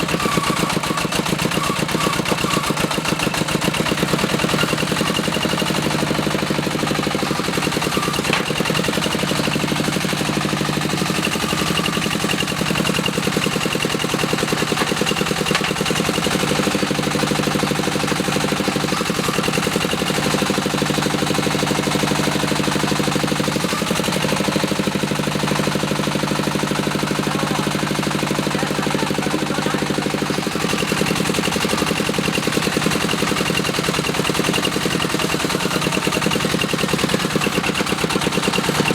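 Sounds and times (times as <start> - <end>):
diesel engine chugging: 0.0 - 38.9.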